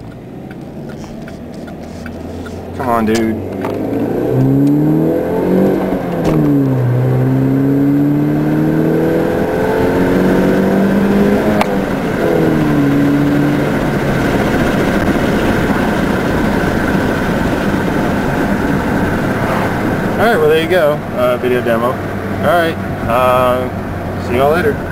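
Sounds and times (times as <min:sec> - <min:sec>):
car engine accelerating: 0:00.0 - 0:24.9
road and wind noise: 0:00.0 - 0:24.9.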